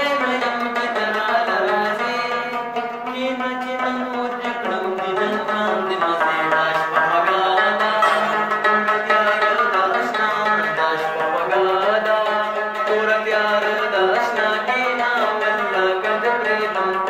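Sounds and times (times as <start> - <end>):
man singing: 0.0 - 17.0
plucked strings over a drone: 0.2 - 15.4.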